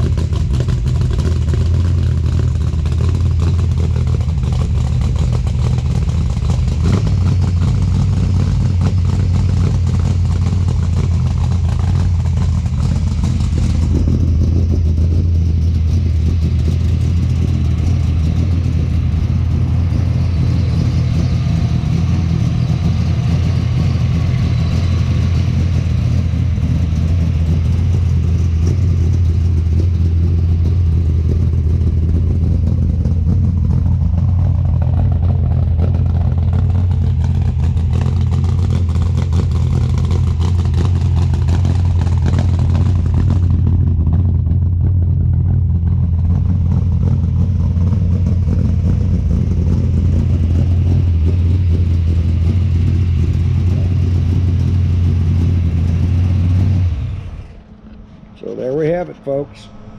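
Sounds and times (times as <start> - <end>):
car engine idling loudly: 0.0 - 59.9.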